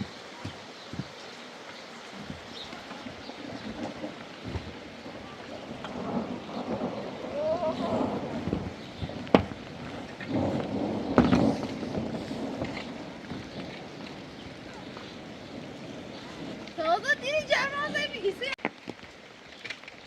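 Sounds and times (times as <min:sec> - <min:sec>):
thunder rumbling: 0:00.0 - 0:18.6
rain falling: 0:00.0 - 0:20.0
sharp thunder crack: 0:02.2 - 0:18.5.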